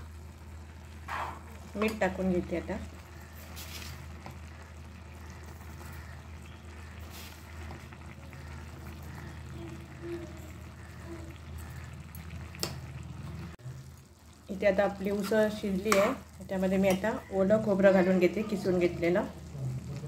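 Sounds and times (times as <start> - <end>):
constant low hum: 0.0 - 16.7
faint bubbling of simmering stew: 0.0 - 20.0.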